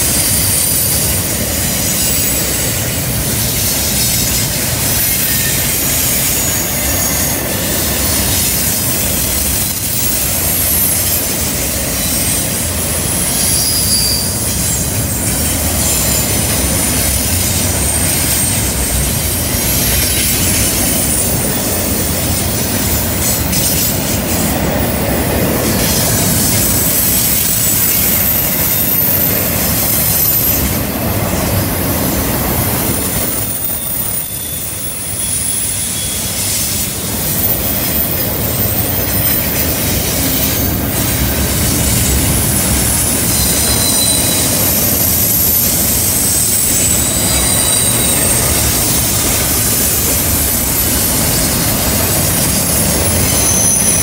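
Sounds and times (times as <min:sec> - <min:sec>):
steel wheels rumbling on rails: 0:00.0 - 0:54.0
wheel flange squeals: 0:00.0 - 0:54.0.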